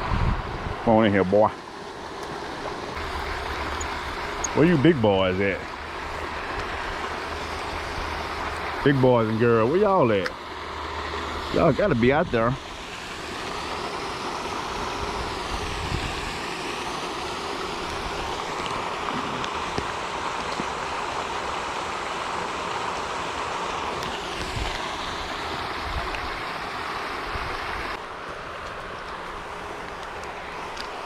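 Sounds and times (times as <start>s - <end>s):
fountain spray splashing on water: 0.8s - 31.0s.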